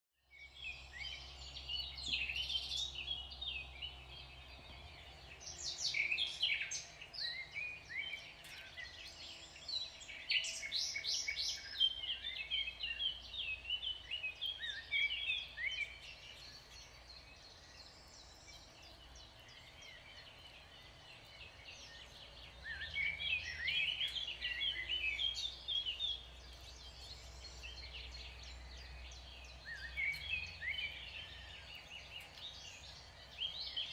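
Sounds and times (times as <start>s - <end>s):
songbirds chirping: 0.2s - 33.9s.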